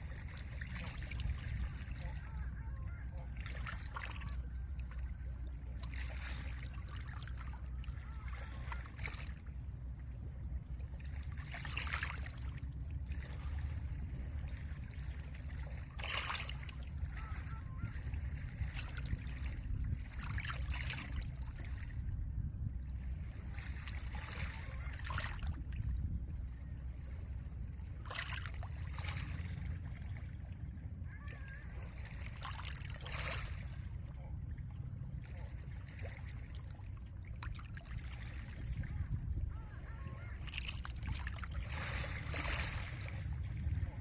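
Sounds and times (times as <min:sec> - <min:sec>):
low wind rumble: 0:00.0 - 0:44.0.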